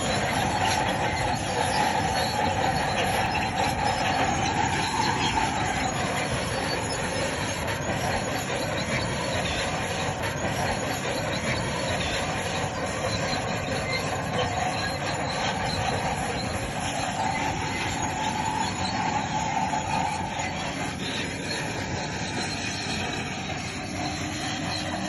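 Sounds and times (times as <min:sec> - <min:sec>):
bulldozer engine running: 0:00.0 - 0:25.0
steel tracks squealing and clanking: 0:00.0 - 0:25.0.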